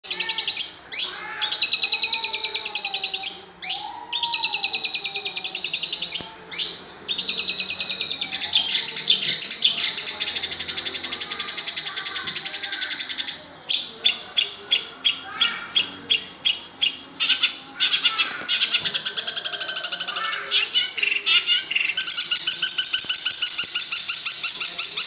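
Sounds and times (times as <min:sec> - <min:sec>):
shrike singing rattling trills: 0:00.0 - 0:25.0.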